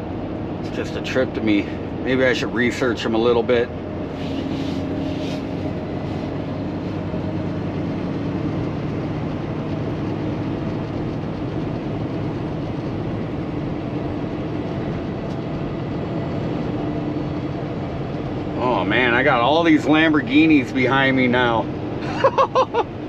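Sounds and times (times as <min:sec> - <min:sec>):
diesel truck engine droning: 0:00.0 - 0:23.0
road noise: 0:00.0 - 0:23.0.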